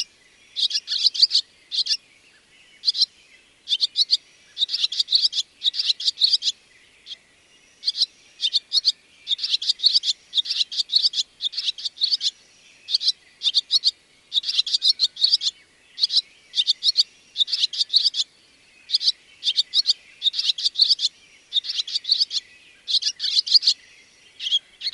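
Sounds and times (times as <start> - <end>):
swallow twittering: 0.0 - 2.0, 2.7 - 24.9.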